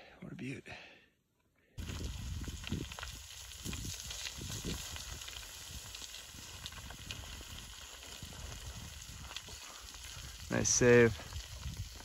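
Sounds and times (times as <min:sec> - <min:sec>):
wind buffeting microphone: 0:01.8 - 0:12.0.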